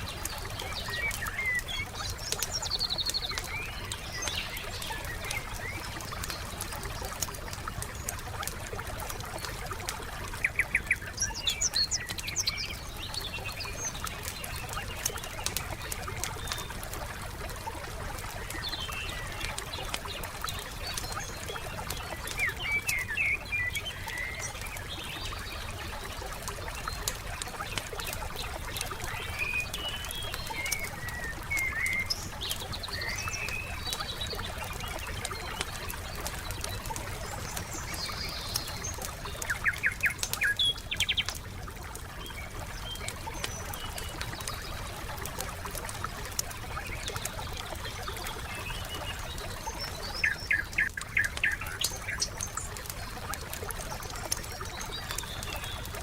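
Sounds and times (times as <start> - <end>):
songbirds chirping and whistling: 0.0 - 8.1, 9.3 - 56.0
campfire crackling and popping: 0.0 - 56.0.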